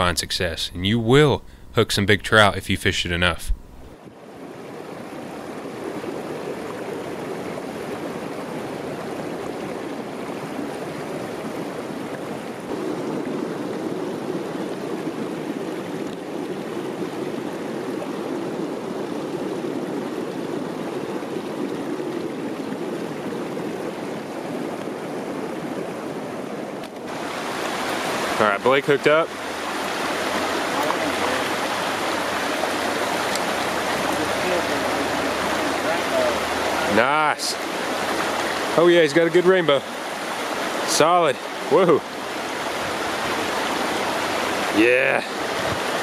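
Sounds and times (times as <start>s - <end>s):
creek water rushing over stones: 4.0s - 46.0s.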